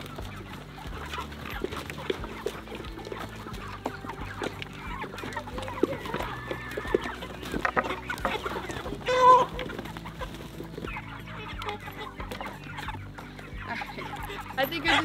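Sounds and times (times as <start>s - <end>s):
chicken drawn-out call: 0.0s - 15.0s
chickens clucking: 0.0s - 15.0s.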